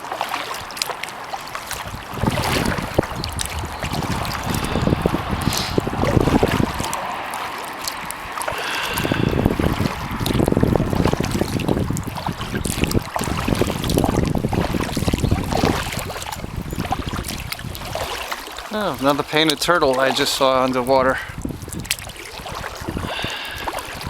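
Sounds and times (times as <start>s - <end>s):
paddle splashing in water: 0.0s - 24.0s
wind buffeting microphone: 0.0s - 24.0s.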